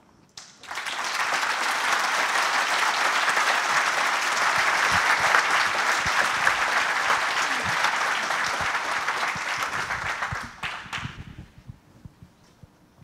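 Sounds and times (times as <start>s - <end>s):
large audience applauding: 0.4s - 11.4s.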